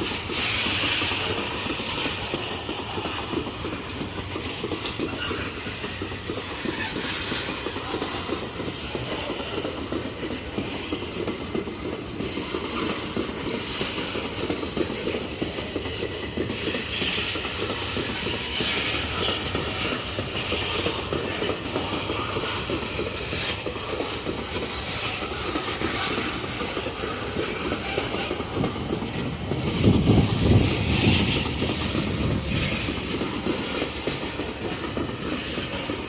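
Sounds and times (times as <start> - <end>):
freight train wheels rattling: 0.0 - 36.0.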